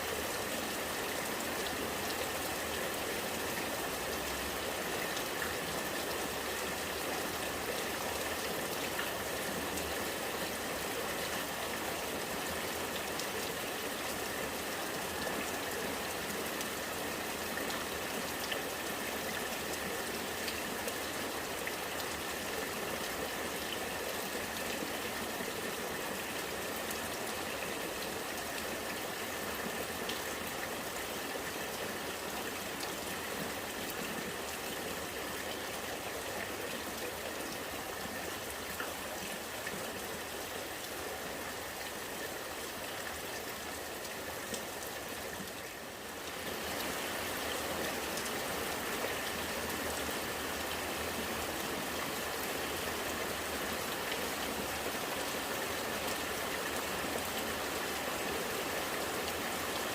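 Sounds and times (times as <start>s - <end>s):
rain falling: 0.0s - 59.9s
rainwater running and gurgling: 0.0s - 59.9s.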